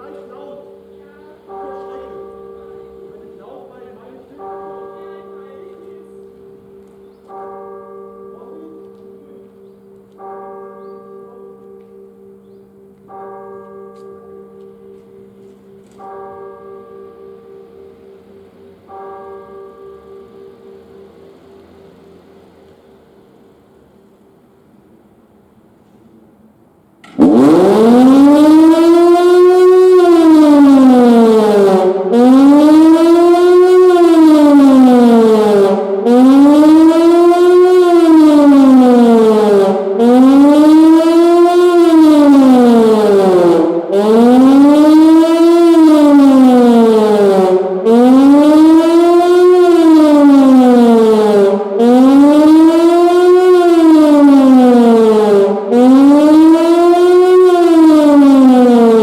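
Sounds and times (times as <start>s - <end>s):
wailing warning siren: 0.0s - 24.5s, 27.0s - 59.0s.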